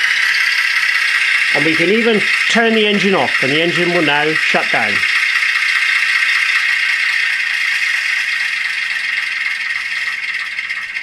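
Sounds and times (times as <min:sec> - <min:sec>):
simulated diesel engine idling: 0:00.0 - 0:11.0.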